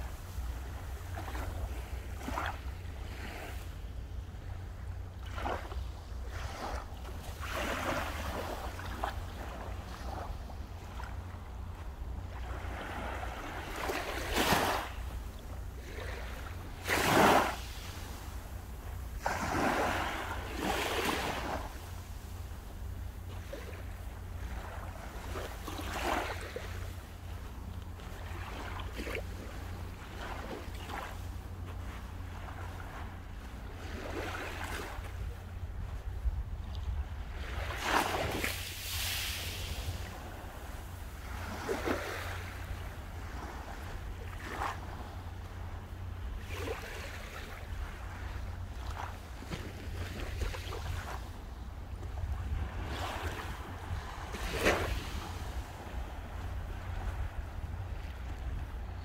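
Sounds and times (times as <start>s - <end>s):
small waves breaking on shore: 0.0s - 59.0s
wind rumble on microphone: 0.0s - 59.0s.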